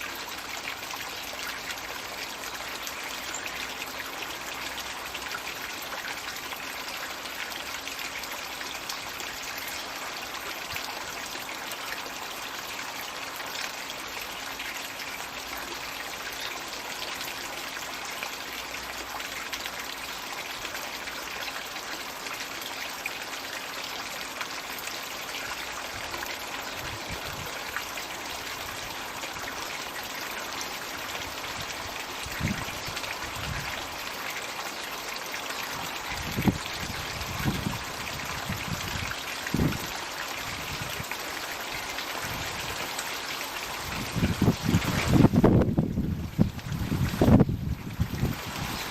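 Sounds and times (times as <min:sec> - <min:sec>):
water pouring and splashing: 0:00.0 - 0:48.9.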